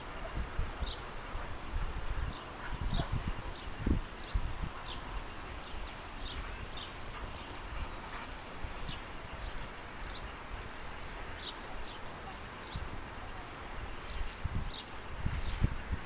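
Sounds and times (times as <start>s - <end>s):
birds chirping: 0.0s - 16.0s
wind buffeting microphone: 0.0s - 16.0s.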